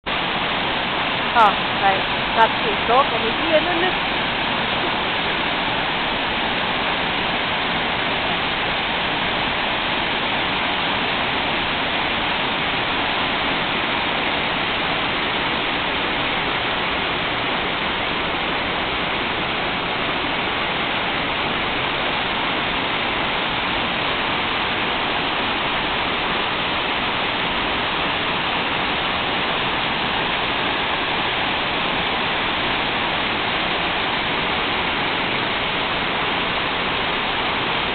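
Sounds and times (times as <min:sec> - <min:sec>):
waterfall rushing over rocks: 0:00.1 - 0:37.9.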